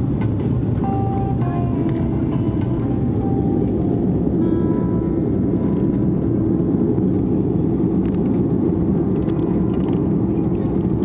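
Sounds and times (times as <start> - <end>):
aircraft engines and airflow rumble: 0.0 - 11.0.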